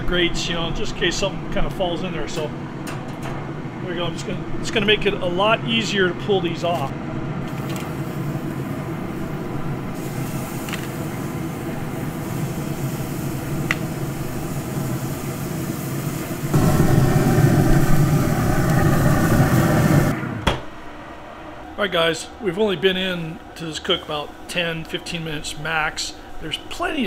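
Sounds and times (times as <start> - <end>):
pellet grill fan noise: 0.0 - 20.5, 21.6 - 27.0.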